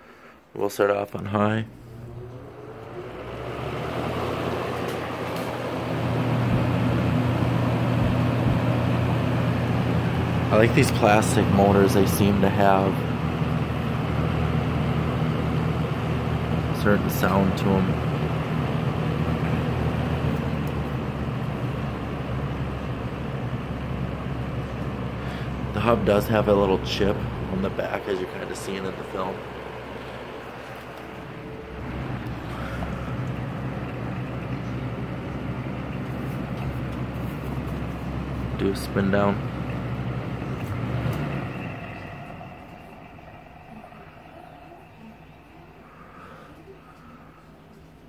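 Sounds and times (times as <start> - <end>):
box fan humming and rushing air: 0.9 - 48.0.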